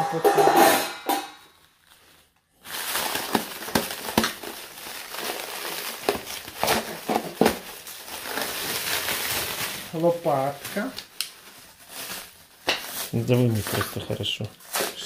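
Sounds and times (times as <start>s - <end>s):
cling film crinkling: 1.7s - 15.0s.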